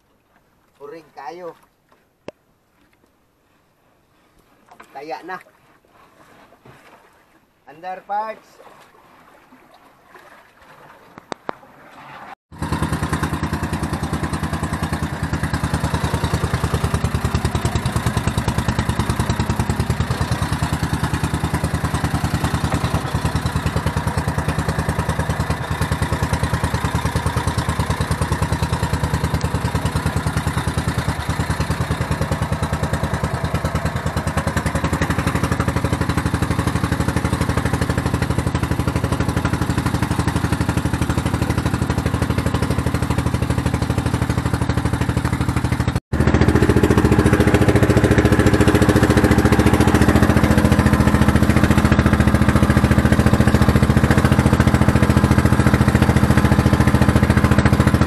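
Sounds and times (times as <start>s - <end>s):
boat engine pulsing: 4.0s - 58.0s.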